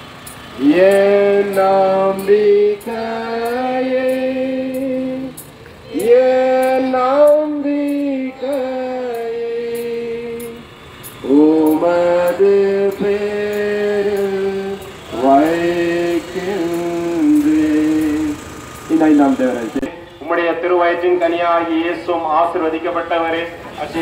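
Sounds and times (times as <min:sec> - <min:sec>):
voices singing a hymn: 0:00.5 - 0:19.9.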